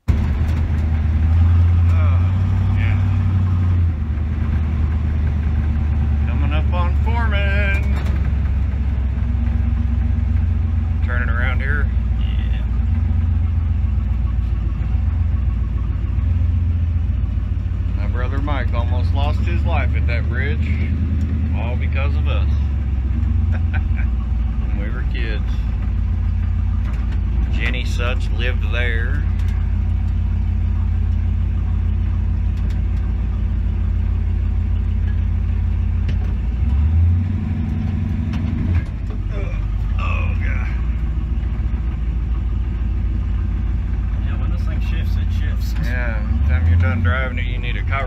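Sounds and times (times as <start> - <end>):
car engine rumble from inside cabin: 0.0 - 48.0.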